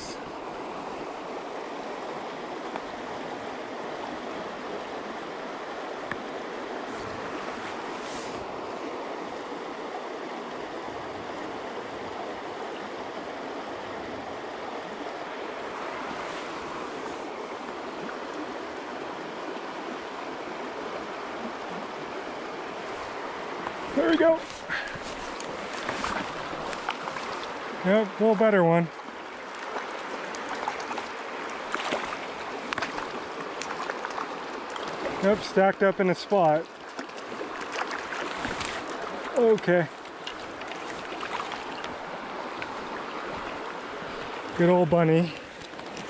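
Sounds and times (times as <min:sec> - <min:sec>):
stream rushing over stones: 0:00.0 - 0:46.0.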